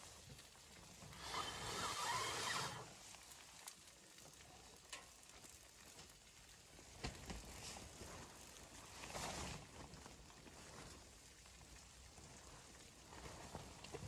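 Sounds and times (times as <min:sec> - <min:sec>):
wood stove fire crackling: 0:00.0 - 0:14.0.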